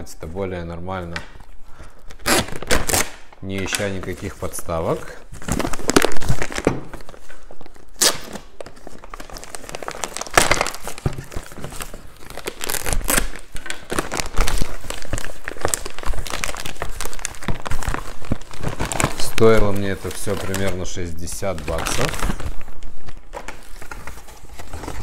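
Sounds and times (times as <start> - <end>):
plastic bags and paper crinkling: 0.0 - 25.0.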